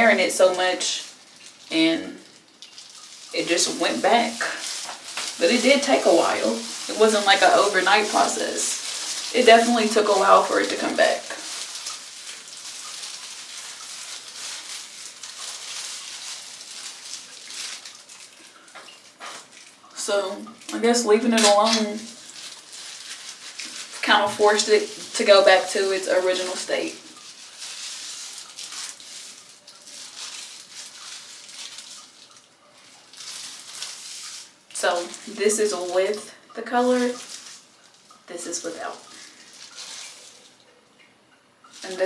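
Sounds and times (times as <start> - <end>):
hands rustling through hair: 0.0 - 19.8, 20.9 - 40.6, 41.7 - 42.0.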